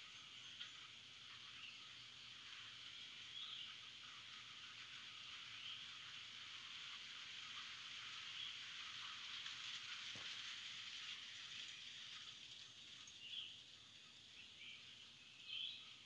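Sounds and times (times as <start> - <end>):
faint steady rain: 0.0 - 16.0.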